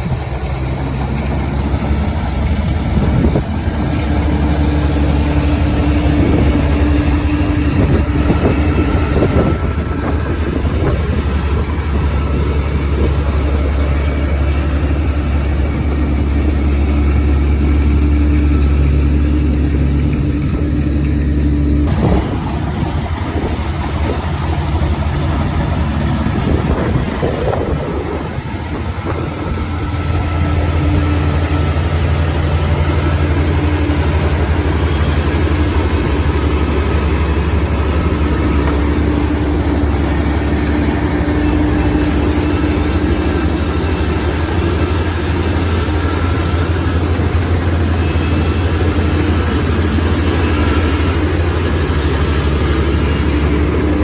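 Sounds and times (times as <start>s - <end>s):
combine harvester engine humming: 0.0s - 54.0s.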